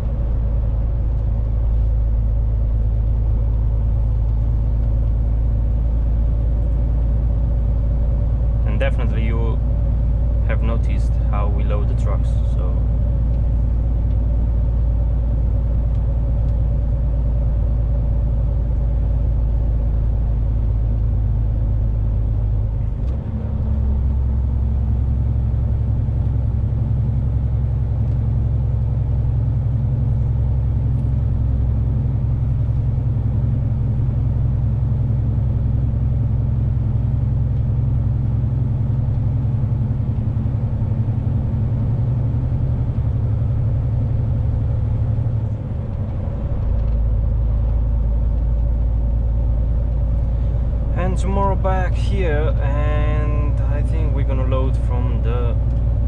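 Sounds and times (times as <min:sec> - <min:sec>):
lorry engine droning: 0:00.0 - 0:56.0
road noise: 0:00.0 - 0:56.0.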